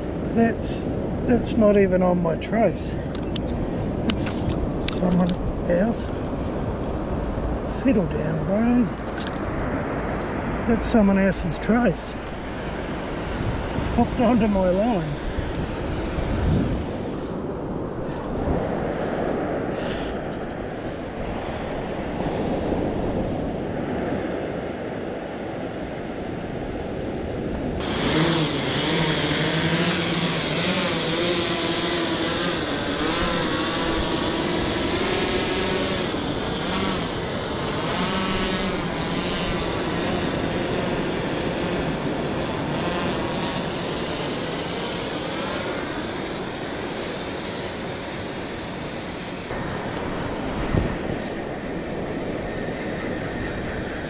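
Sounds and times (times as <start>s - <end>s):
wind: 0.0s - 54.0s
drone propellers whining: 2.4s - 54.0s.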